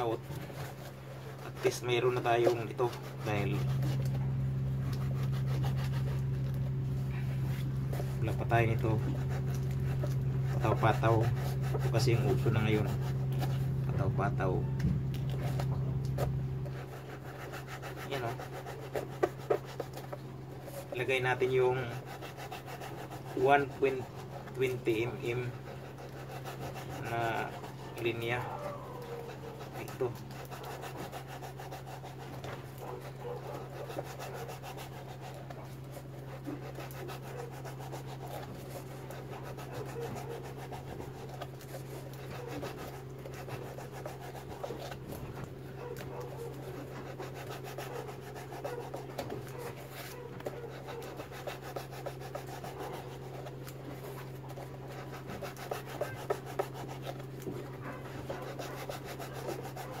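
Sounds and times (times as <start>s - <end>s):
knife rasping through foam: 0.0s - 14.6s, 15.2s - 60.0s
steady low hum: 0.0s - 60.0s.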